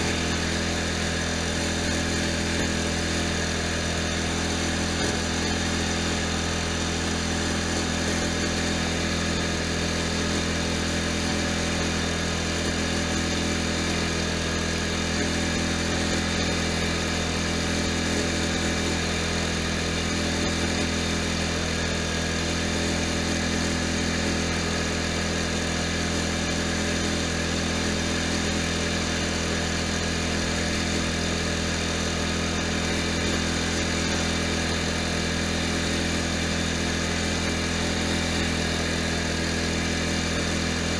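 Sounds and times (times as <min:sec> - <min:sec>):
lawn tractor engine droning: 0:00.0 - 0:40.9.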